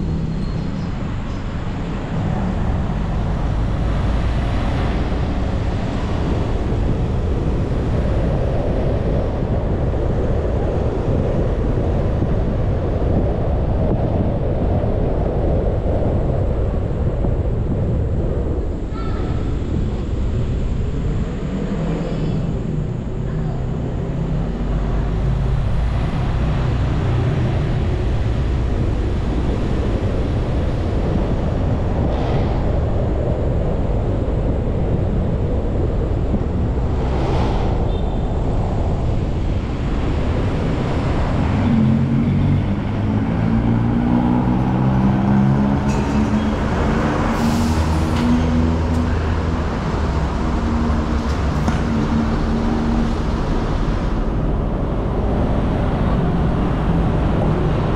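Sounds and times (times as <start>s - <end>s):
vehicle engine hum and road noise: 0.0s - 57.9s.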